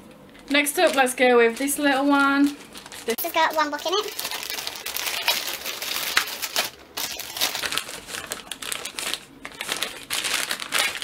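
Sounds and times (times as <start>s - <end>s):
plastic mailer crinkling: 0.4s - 11.0s.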